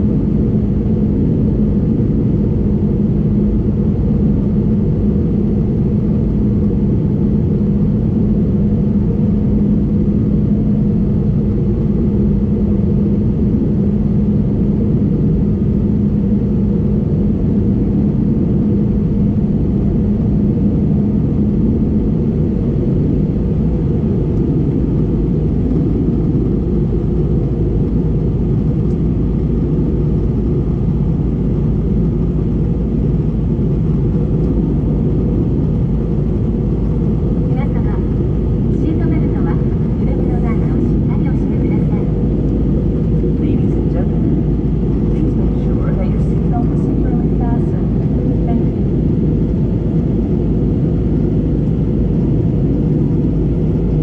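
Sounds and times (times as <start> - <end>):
airplane cabin drone: 0.0 - 54.0
low steady hum: 0.0 - 54.0.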